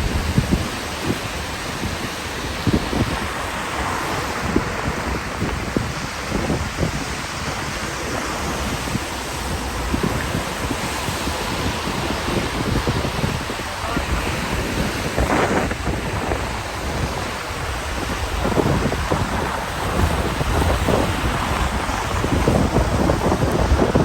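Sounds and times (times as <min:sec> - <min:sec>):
rain rushing: 0:00.0 - 0:24.0
wind buffeting microphone: 0:00.0 - 0:24.0.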